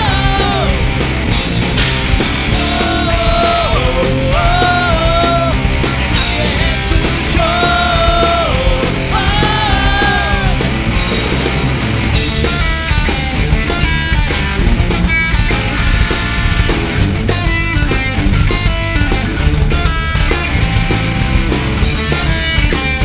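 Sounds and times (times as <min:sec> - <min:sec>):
rock band playing punk rock: 0:00.0 - 0:23.0.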